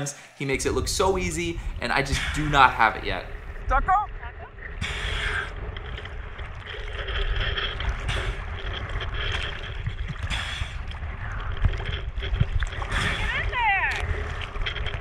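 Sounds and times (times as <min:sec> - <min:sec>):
wind rumble on microphone: 0:00.5 - 0:15.0
sea water sloshing and splashing: 0:00.6 - 0:15.0.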